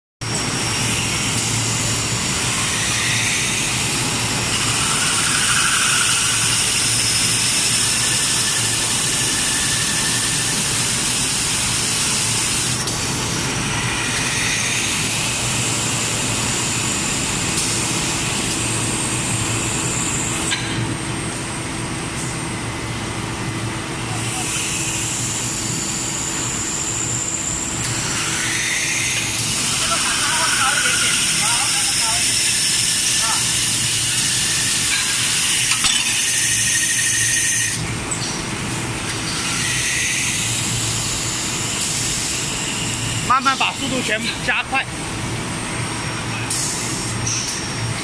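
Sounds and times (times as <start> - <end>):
glass drilling machine running: 0.2 - 20.6, 24.1 - 37.8, 39.2 - 44.8.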